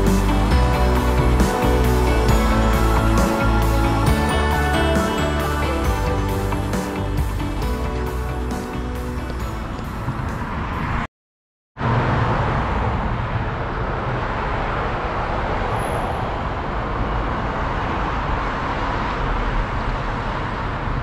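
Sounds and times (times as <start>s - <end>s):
city traffic hum: 0.0s - 11.1s, 11.8s - 21.0s.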